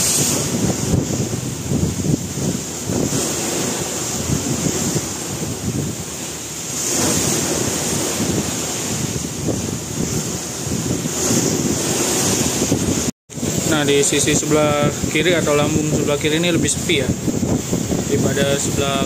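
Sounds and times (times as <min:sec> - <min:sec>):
sea water rushing: 0:00.0 - 0:19.0
wind buffeting microphone: 0:00.0 - 0:19.0.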